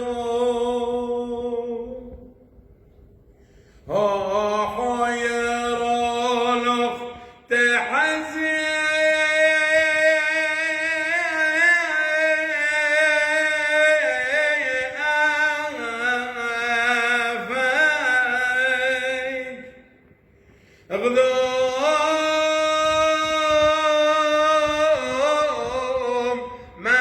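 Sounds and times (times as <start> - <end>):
man chanting a hymn: 0.0 - 2.3, 3.8 - 19.9, 20.8 - 27.0.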